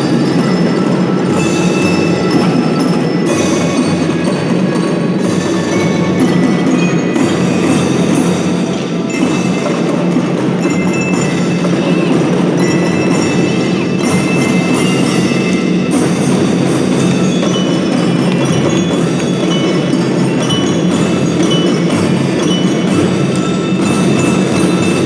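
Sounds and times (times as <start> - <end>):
drums and percussion: 0.0 - 25.0
glockenspiel melody: 0.0 - 25.0.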